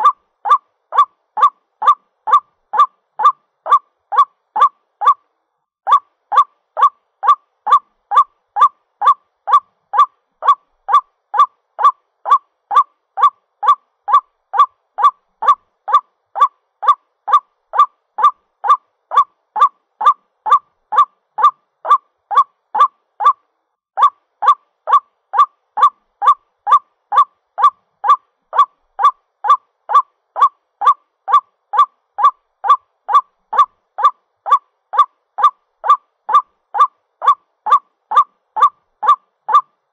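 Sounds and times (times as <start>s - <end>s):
waterhen calling: 0.0s - 5.2s, 5.9s - 23.4s, 24.0s - 39.7s.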